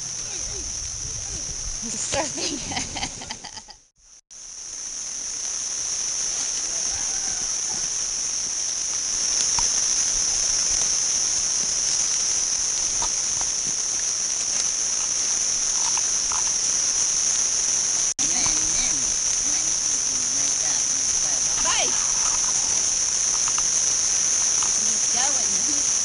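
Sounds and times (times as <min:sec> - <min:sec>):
insects shrilling: 0:00.0 - 0:03.7, 0:04.3 - 0:26.0.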